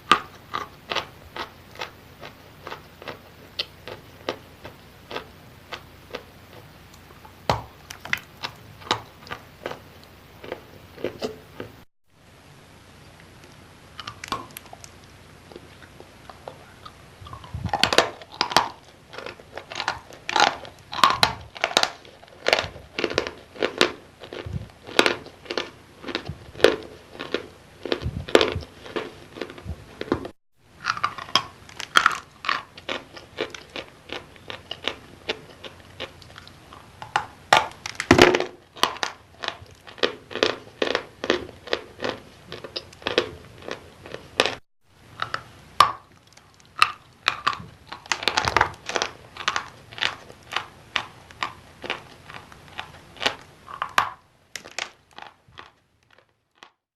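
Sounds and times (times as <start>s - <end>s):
chewing crunchy chalk: 0.0s - 11.9s, 13.5s - 44.6s, 45.2s - 56.8s.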